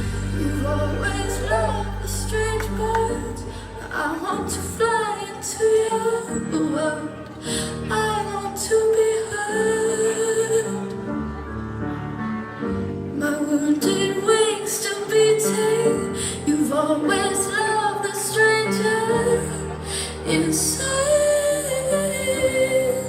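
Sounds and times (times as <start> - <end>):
woman singing: 0.0 - 11.5, 13.1 - 23.0
musical accompaniment: 0.0 - 23.0.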